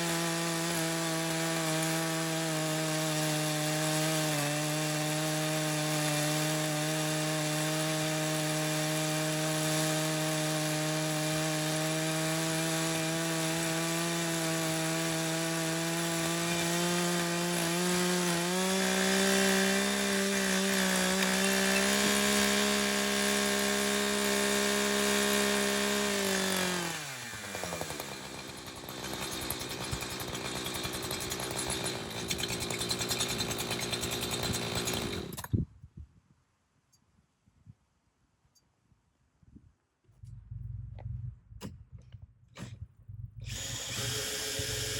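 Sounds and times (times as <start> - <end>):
chainsaw cutting wood: 0.0 - 35.6, 43.4 - 44.9.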